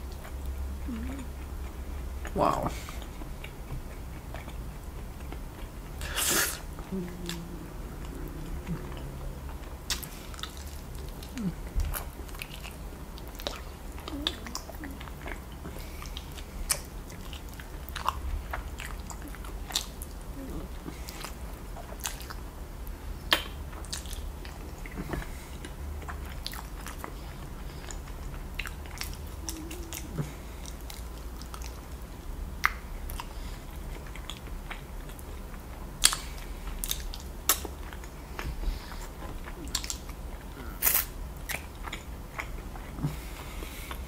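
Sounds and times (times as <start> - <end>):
chewing and biting chicken: 0.0 - 22.5, 23.1 - 44.0.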